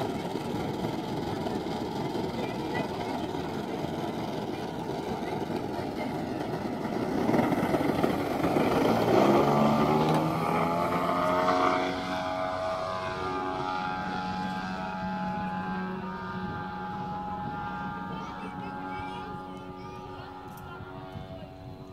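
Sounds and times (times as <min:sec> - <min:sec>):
model plane engine and propeller: 0:00.0 - 0:21.9.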